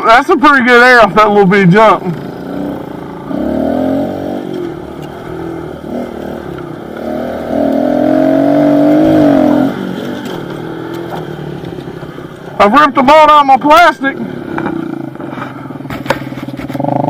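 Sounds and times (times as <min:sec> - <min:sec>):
pit bike engine revving: 0:00.8 - 0:17.0.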